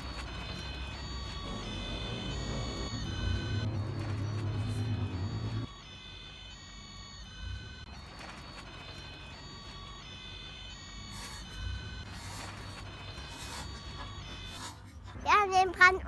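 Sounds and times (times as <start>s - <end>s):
toy fire engine siren beeps: 0.0s - 15.2s.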